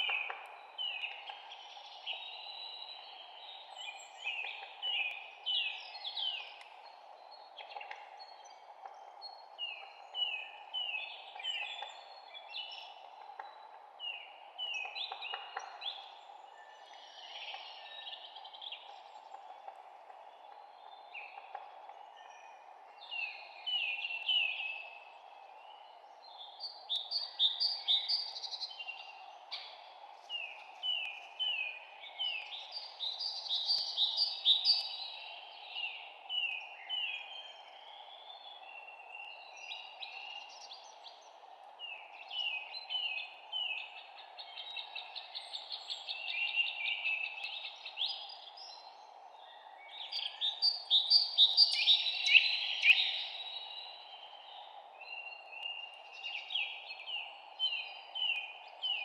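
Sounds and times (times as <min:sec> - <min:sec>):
faint background hiss: 0:00.0 - 0:59.0
songbirds chirping and trilling: 0:00.0 - 0:59.0.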